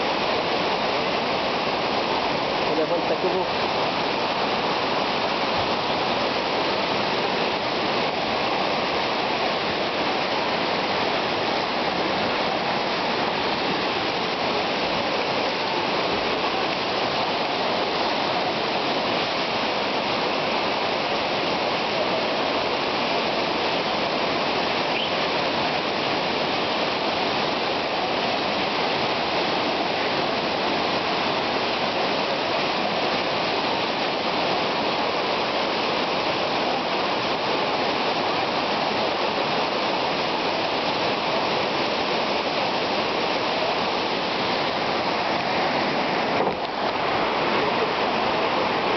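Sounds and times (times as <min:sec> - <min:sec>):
floodwater rushing: 0:00.0 - 0:48.9.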